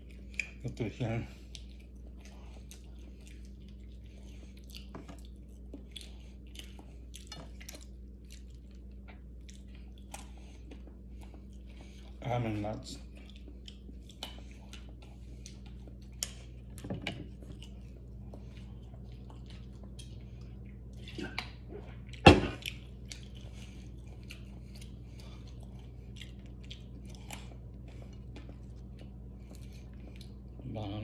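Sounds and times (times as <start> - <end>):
low steady hum: 0.0 - 31.0
person chewing almonds: 0.0 - 31.0.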